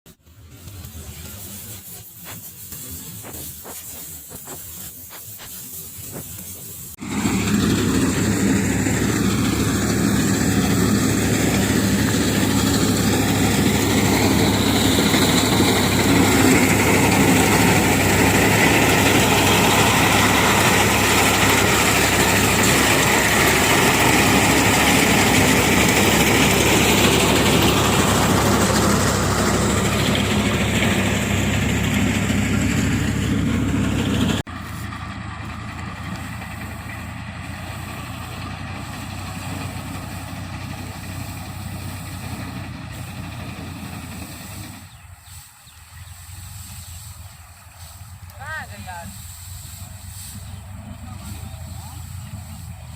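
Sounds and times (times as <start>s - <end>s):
harvester engine running: 0.1s - 52.9s
quiet engine hum: 0.2s - 52.9s.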